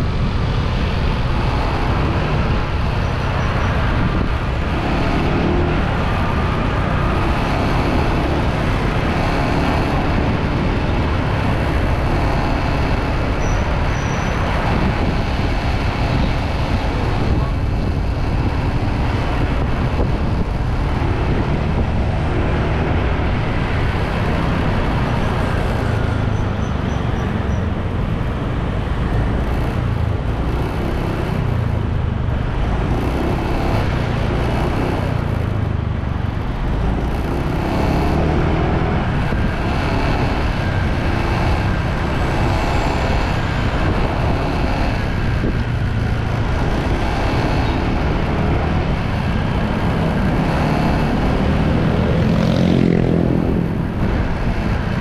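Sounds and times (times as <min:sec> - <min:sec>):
motorbike engine and road noise: 0:00.0 - 0:55.0
passing traffic: 0:00.0 - 0:55.0.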